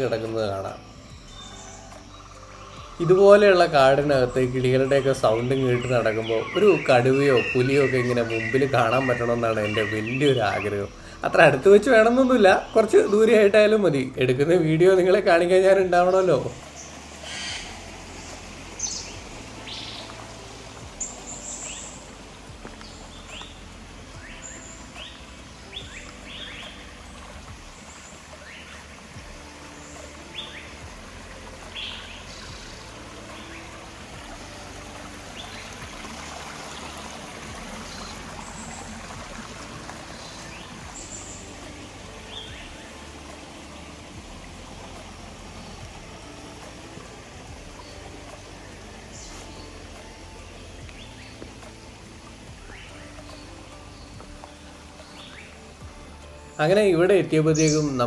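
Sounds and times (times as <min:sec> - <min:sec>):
forest birds chirping and whistling: 0:00.0 - 0:58.0
stream trickling over rocks: 0:00.0 - 0:58.0.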